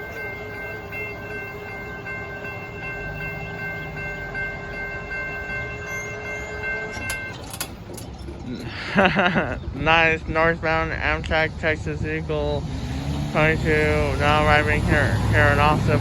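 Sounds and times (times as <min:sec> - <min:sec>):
passing train rumble: 0:00.0 - 0:16.0.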